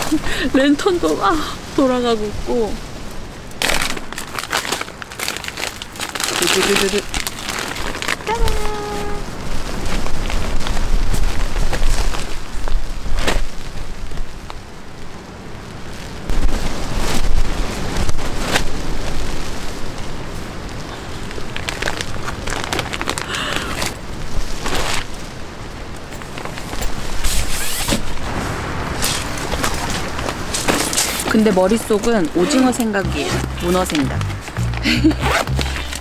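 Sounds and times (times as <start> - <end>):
tent fabric flapping: 3.6 - 14.6, 16.3 - 36.0.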